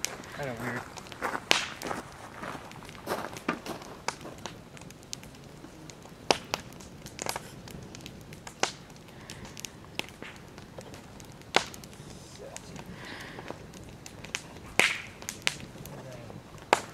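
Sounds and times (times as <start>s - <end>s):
campfire crackling and popping: 0.0s - 16.9s
low steady hiss: 0.0s - 16.9s.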